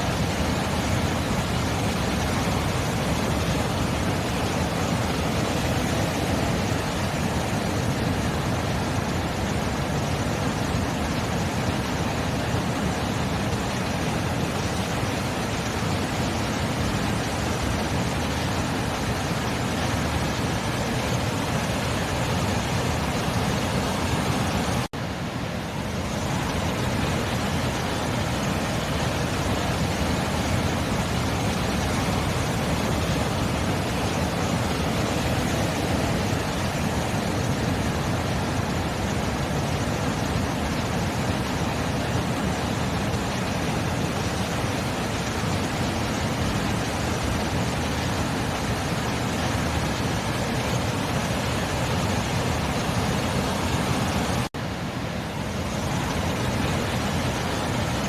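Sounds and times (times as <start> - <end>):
ocean surf rushing: 0.0 - 58.0.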